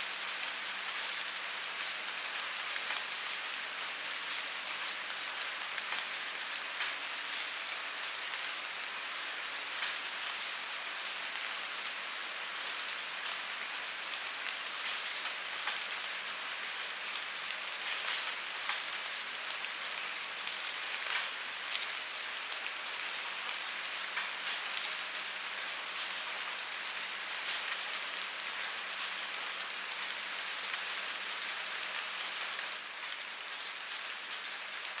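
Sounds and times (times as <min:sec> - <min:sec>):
rain pattering on a surface: 0:00.0 - 0:35.0.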